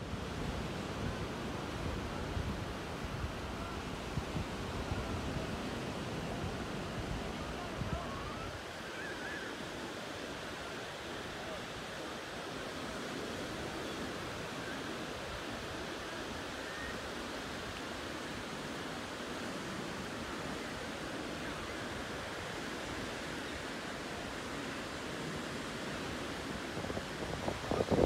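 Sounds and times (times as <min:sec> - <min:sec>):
small waves breaking on sand: 0:00.0 - 0:28.0.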